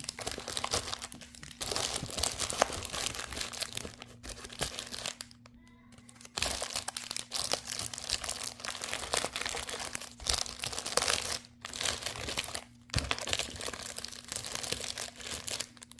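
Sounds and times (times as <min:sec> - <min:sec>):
plastic bags crinkling: 0:00.0 - 0:15.9.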